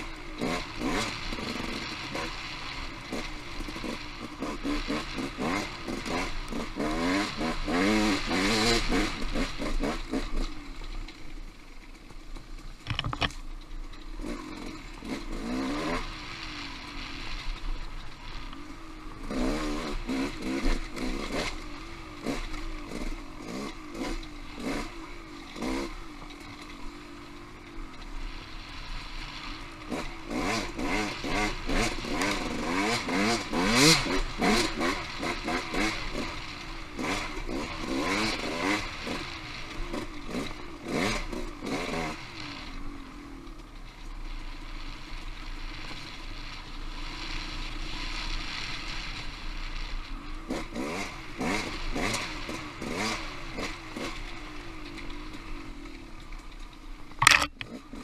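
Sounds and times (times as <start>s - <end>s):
motorcycle engine revving: 0.0s - 11.1s, 12.6s - 43.6s, 50.4s - 56.4s, 57.0s - 58.0s.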